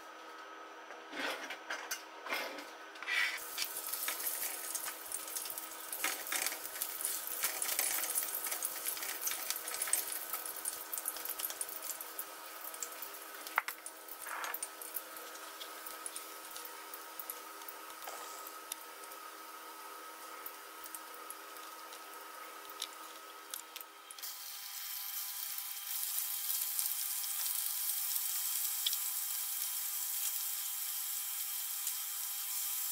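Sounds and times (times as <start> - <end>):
garlic sizzling in hot oil: 3.4 - 32.9.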